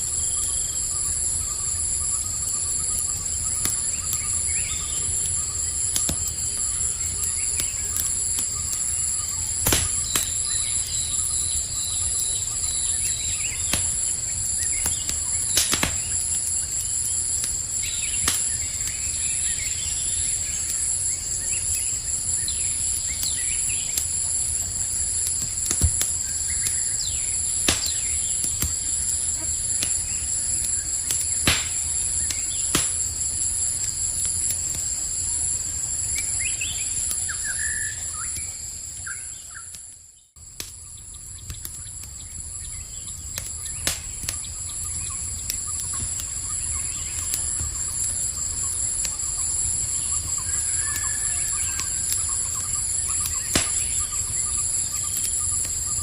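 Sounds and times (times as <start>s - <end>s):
campfire crackling and popping: 0.0s - 56.0s
crickets chirring: 0.0s - 56.0s.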